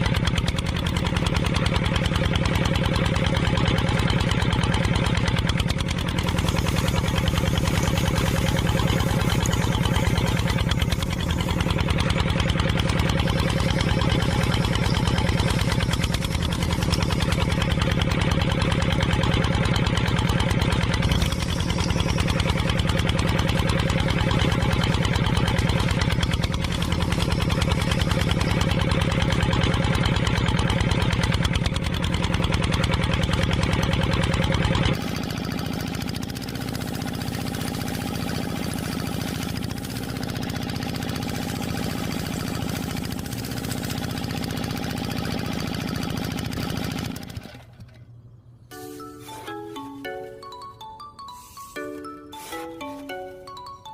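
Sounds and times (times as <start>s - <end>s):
engine running with rapid pulsing: 0.0s - 53.9s.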